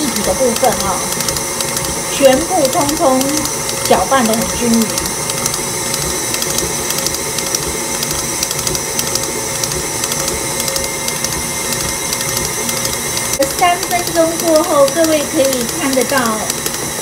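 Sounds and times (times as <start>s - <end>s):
stand mixer running: 0.0s - 17.0s.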